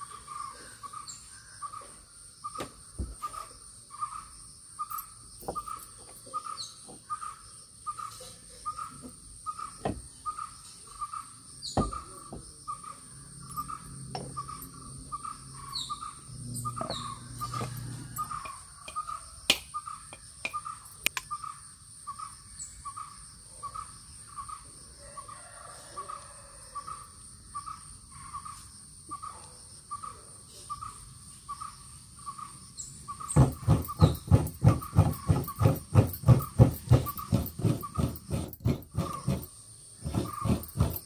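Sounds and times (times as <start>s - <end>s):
birds calling: 0.0s - 24.6s, 26.9s - 41.0s.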